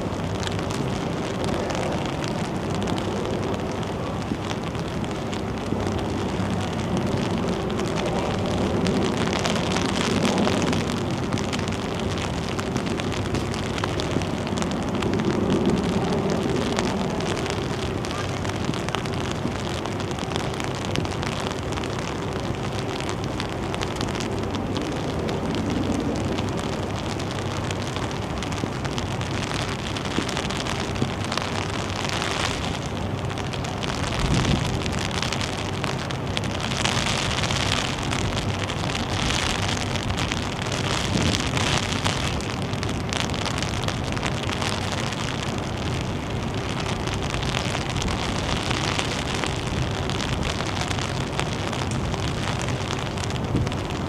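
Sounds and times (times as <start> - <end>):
steady rain: 0.0 - 54.0
wind buffeting microphone: 0.0 - 54.0.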